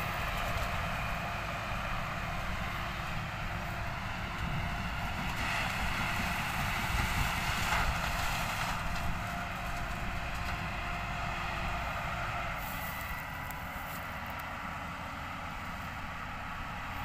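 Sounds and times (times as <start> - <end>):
distant diesel engine drone: 0.0 - 17.0.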